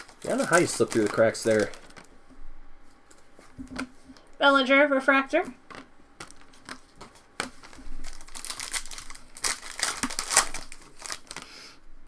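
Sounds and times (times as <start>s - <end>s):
packaging crinkling and rustling: 0.0s - 2.3s, 2.9s - 4.4s, 5.5s - 11.7s.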